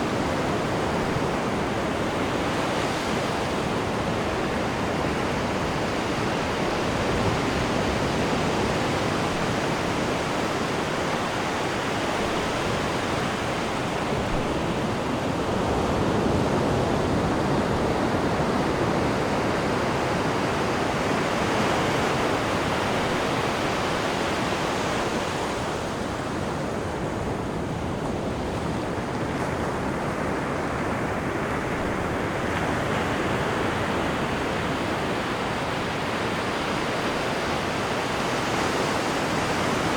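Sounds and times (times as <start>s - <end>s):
sea water rushing and churning: 0.0s - 39.9s.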